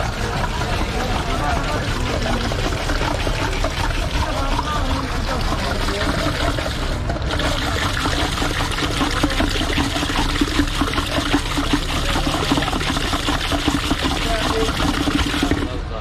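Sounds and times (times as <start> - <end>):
liquid pouring and trickling: 0.0 - 16.0.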